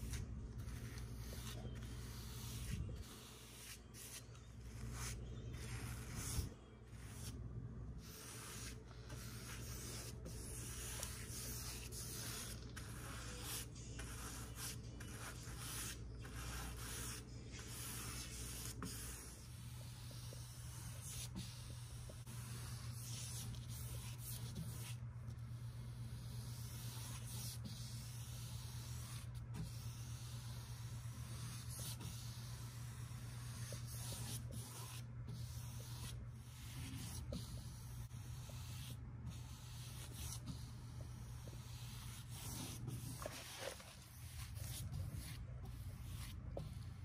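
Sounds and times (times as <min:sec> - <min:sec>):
paintbrush strokes on wall: 0:00.0 - 0:47.0.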